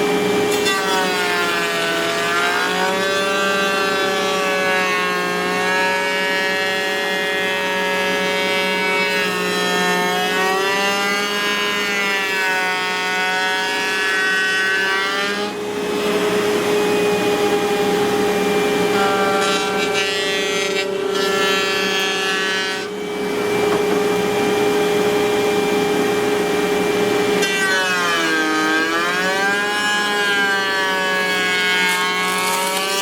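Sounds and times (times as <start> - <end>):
wood router whining: 0.0 - 33.0
router bit cutting wood: 0.1 - 33.0.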